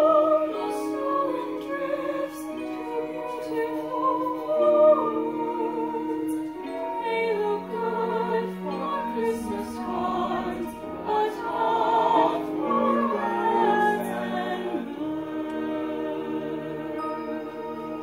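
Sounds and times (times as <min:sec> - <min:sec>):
instrumental accompaniment: 0:00.0 - 0:18.0.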